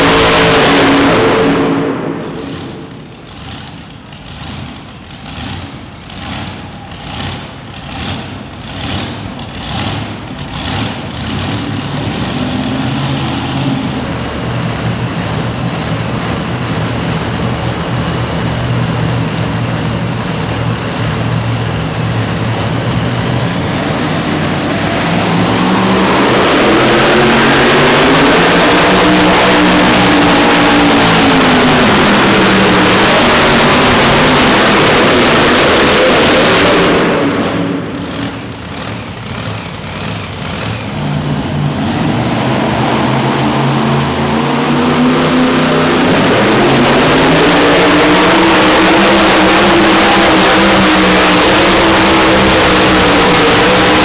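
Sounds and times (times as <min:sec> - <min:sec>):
pulling truck engine revving: 0:00.0 - 0:54.0.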